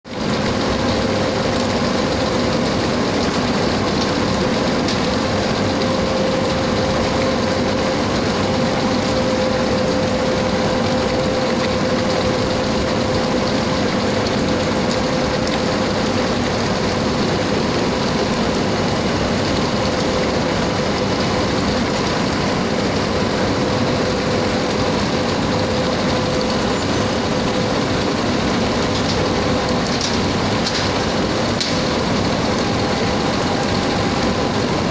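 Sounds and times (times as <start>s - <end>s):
induction furnace humming: 0.1s - 34.9s.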